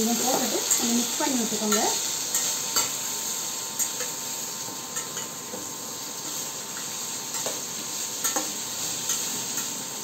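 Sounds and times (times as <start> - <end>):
okra sizzling in hot oil: 0.0 - 10.0.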